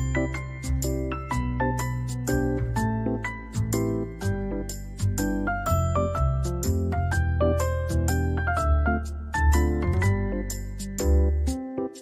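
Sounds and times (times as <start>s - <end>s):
deep bass: 0.0s - 11.5s
instrumental melody: 0.0s - 12.0s.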